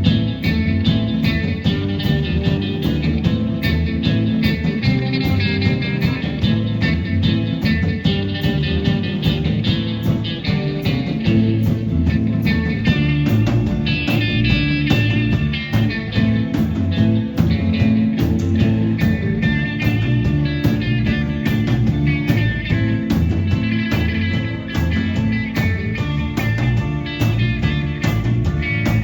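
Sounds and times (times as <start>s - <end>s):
blues-rock guitar: 0.0s - 29.0s
steady drum beat: 0.0s - 29.0s.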